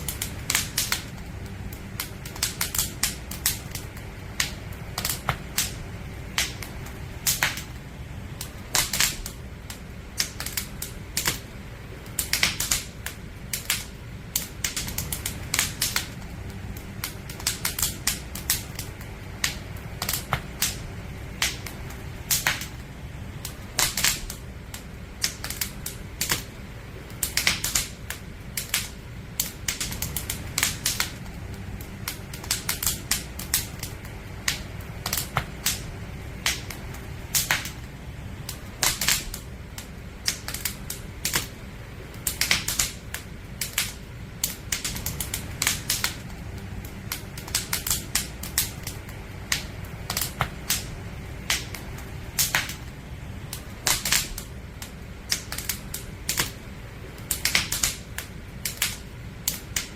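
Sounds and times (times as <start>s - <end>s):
low rumble of burning logs: 0.0s - 59.9s
wood fire crackling: 0.0s - 59.9s.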